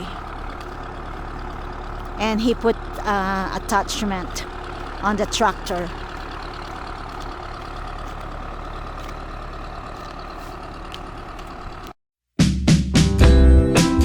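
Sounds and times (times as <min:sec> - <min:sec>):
tractor engine mowing: 0:00.0 - 0:12.0.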